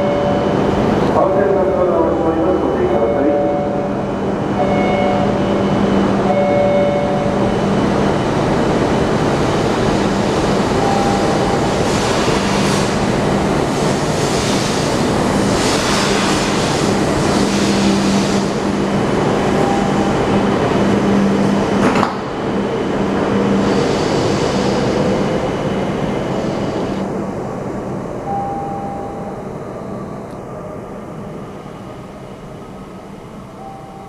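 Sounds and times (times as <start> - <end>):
train cars rushing past: 0.0 - 34.0
train electric hum: 0.0 - 34.0.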